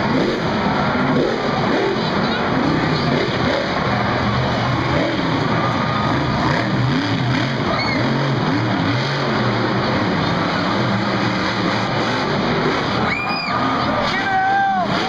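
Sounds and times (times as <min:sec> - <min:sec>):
arena crowd noise: 0:00.0 - 0:15.0
truck engine revving: 0:00.0 - 0:15.0.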